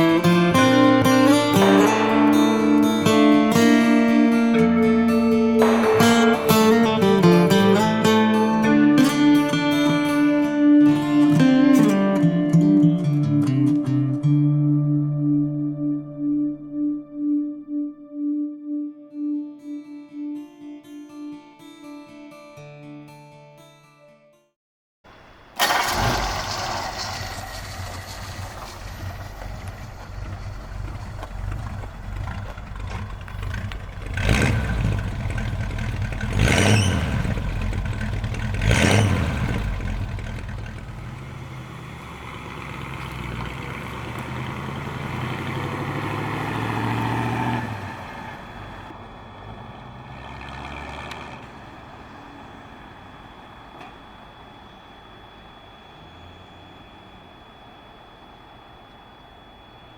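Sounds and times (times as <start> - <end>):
car engine revving: 0.0 - 13.9, 25.1 - 59.6.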